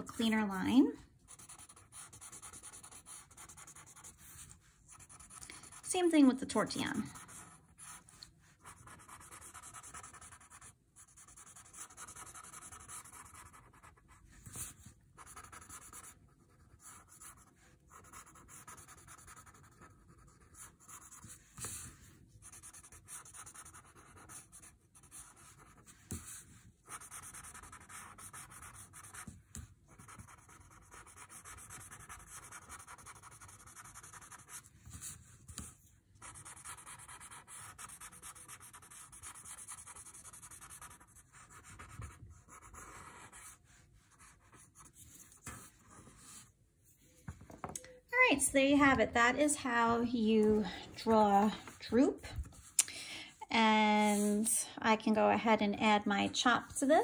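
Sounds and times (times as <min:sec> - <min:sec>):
scratchy rubbing on paper: 0:00.0 - 0:46.5, 0:53.9 - 0:54.5.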